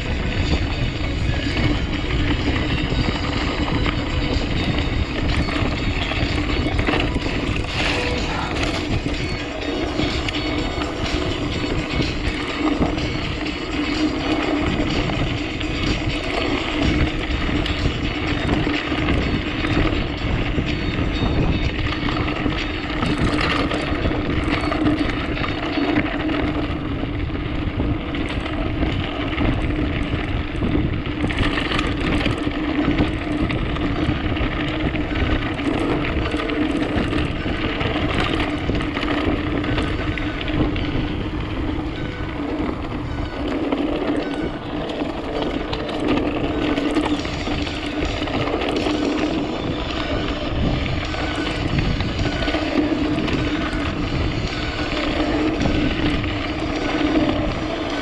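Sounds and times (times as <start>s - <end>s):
bike rattling and knocking: 0.0s - 58.0s
bike tyres on dirt trail: 0.0s - 58.0s.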